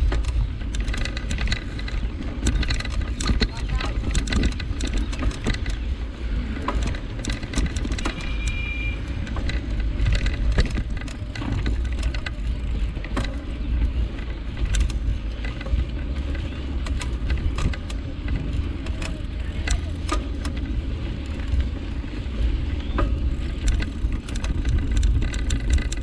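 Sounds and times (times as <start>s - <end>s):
bike rattling and clicking: 0.0s - 26.0s
wind and rolling rumble: 0.0s - 26.0s.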